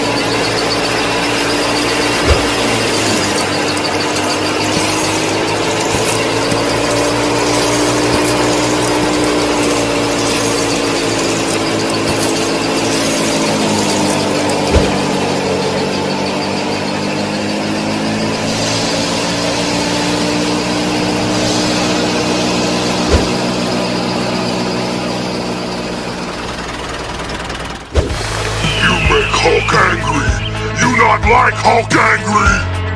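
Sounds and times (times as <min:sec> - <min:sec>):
small motor whining: 0:00.0 - 0:30.0.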